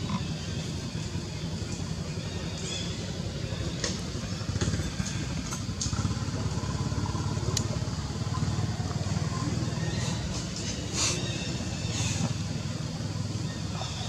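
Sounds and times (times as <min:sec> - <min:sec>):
small engine rumbling: 0:00.0 - 0:14.0.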